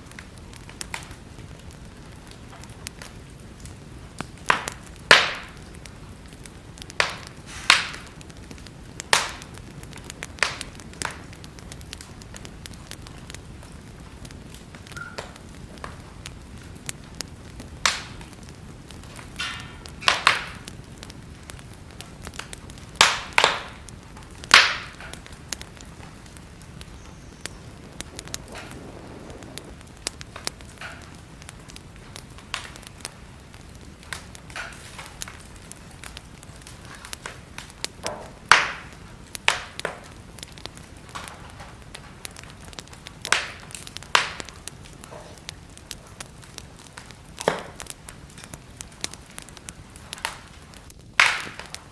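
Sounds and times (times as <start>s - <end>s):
soft fire hiss: 0.0s - 51.9s
wood fire crackling and popping: 0.0s - 51.9s.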